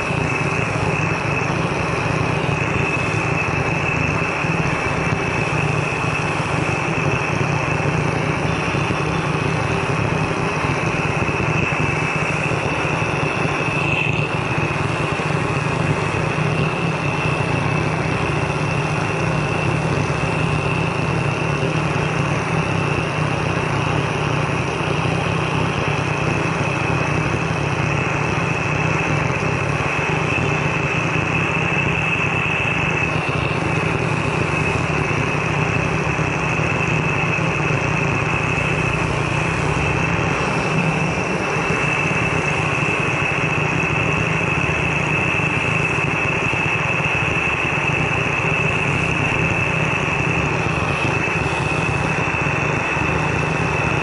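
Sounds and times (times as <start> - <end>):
gas torch flame hissing: 0.0 - 54.0.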